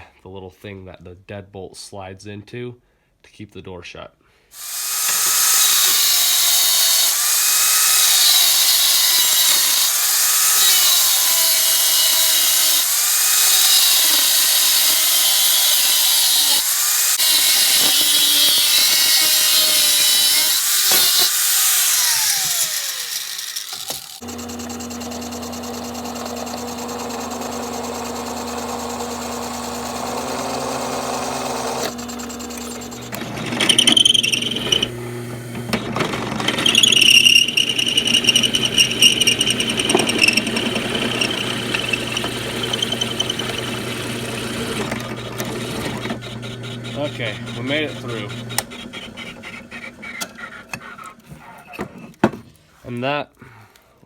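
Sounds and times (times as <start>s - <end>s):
power drill boring through steel: 4.6s - 51.2s
angle grinder cutting sheet metal: 4.6s - 51.8s.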